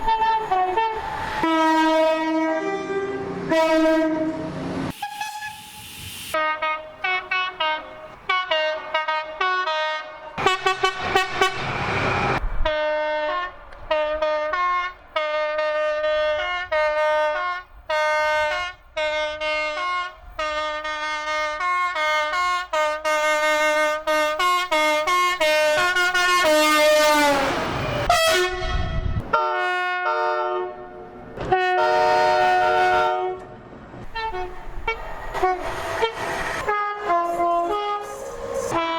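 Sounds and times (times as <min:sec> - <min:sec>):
two-tone train horn blasts: 0:00.0 - 0:11.8, 0:12.6 - 0:38.9
train passing rush: 0:00.0 - 0:22.0, 0:23.2 - 0:38.9.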